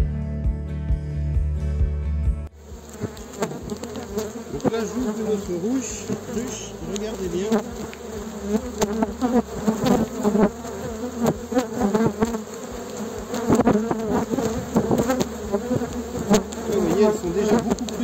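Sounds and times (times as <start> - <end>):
bees buzzing: 2.6 - 18.0.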